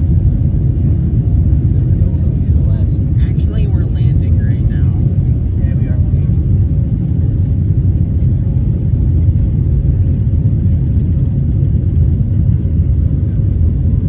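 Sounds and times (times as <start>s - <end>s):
jet engines at takeoff rumbling: 0.0s - 14.0s.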